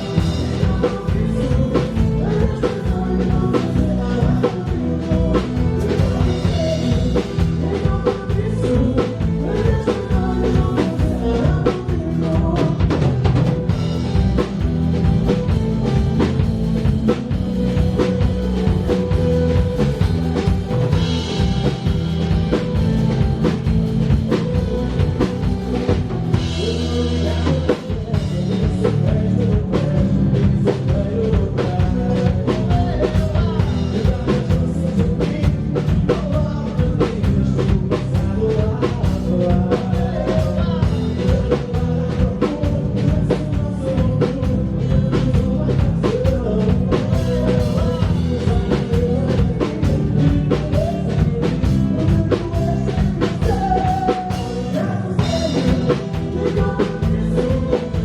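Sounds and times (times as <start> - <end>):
drum kit beat: 0.0 - 58.0
live band playing: 0.0 - 58.0
person singing: 0.0 - 58.0.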